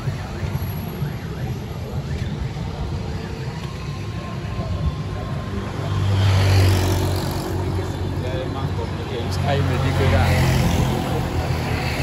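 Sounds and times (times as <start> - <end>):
faint voices: 0.0 - 12.0
road traffic rumble: 0.0 - 12.0.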